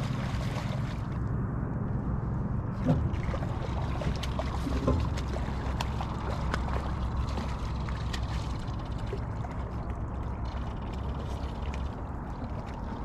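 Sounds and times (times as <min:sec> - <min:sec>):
light water sounds: 0:00.0 - 0:13.0
steady low rumble: 0:00.0 - 0:13.0.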